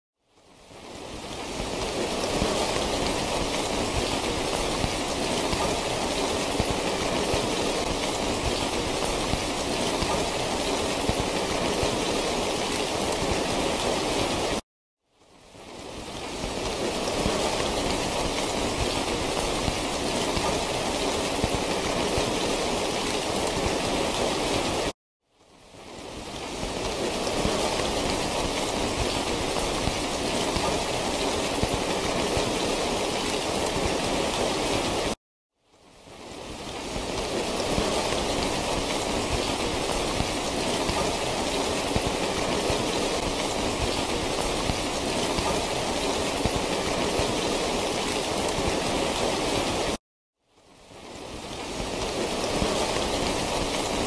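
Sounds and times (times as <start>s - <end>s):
steady rain falling: 0.2s - 54.0s.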